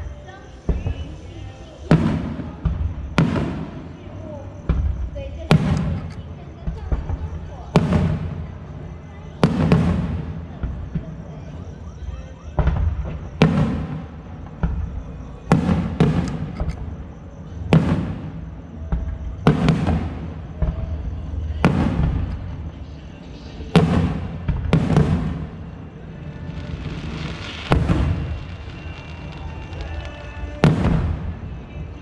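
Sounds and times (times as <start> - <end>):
fireworks bursting with bangs: 0.0 - 32.0.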